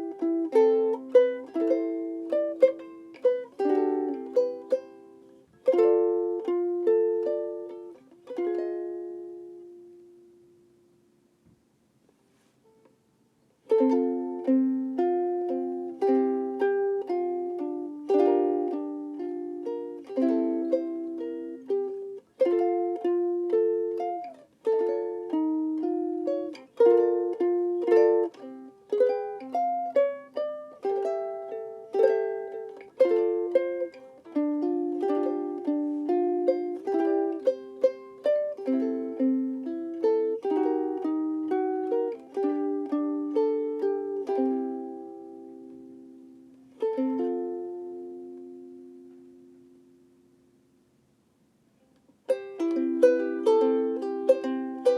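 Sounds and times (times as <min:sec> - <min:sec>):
ukulele plucked chords and melody: 0:00.0 - 0:11.2, 0:13.6 - 0:50.9, 0:52.1 - 0:54.9.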